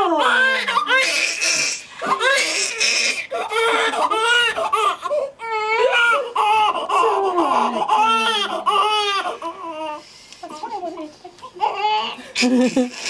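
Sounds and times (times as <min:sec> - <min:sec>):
newborn baby crying: 0:00.0 - 0:10.0, 0:11.4 - 0:12.4.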